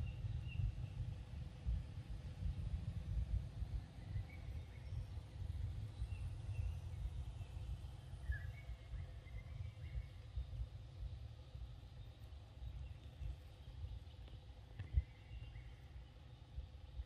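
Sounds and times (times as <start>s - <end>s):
low rumble on microphone: 0.0s - 17.0s.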